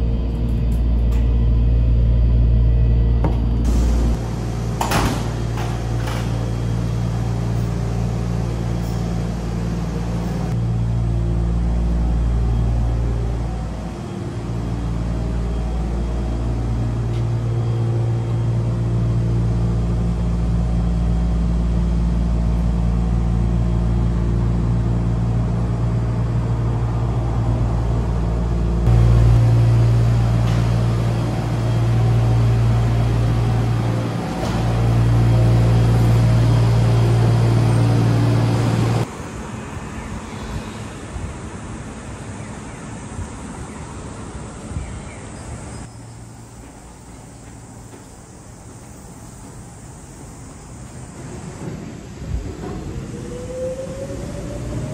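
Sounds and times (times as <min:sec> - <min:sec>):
low hum and rumble: 0:00.0 - 0:54.9.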